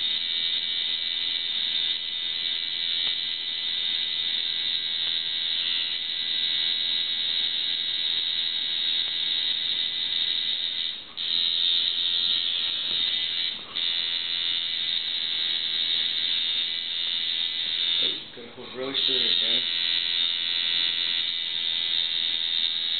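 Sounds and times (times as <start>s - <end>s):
tattoo machine buzzing: 0.0s - 22.9s.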